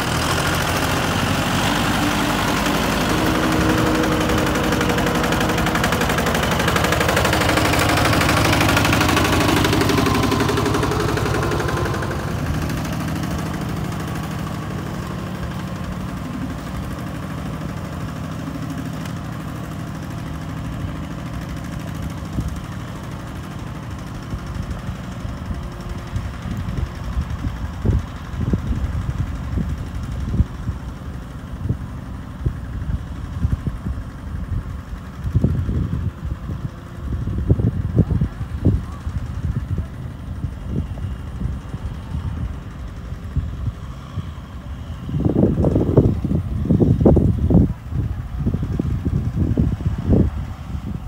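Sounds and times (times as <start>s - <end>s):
tractor diesel engines under load: 0.0s - 51.0s.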